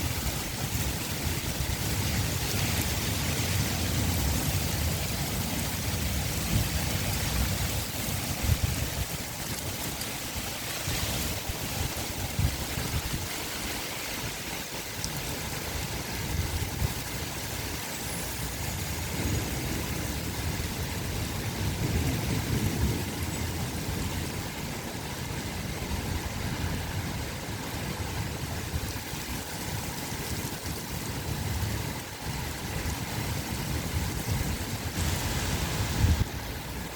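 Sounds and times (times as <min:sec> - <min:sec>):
strong gusty wind: 0:00.0 - 0:36.9
wind buffeting microphone: 0:00.0 - 0:36.9.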